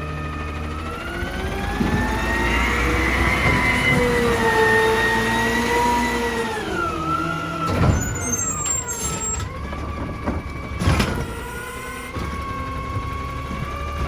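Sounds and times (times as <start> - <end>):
garbage truck engine whine: 0.0 - 14.0.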